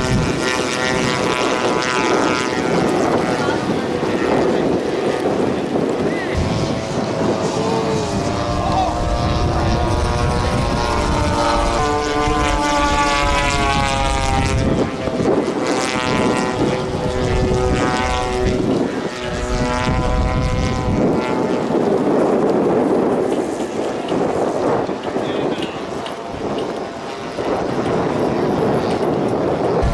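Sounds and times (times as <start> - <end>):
model plane engine flying past: 0.0 - 29.9
wind buffeting microphone: 0.0 - 29.9.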